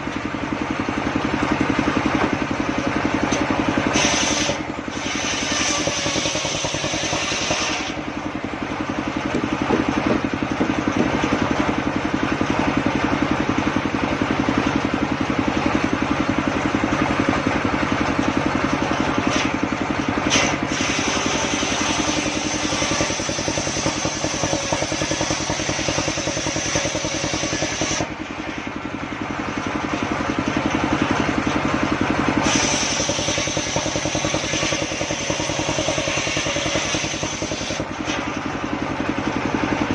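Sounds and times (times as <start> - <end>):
engine-driven circular saw running: 0.0 - 39.9.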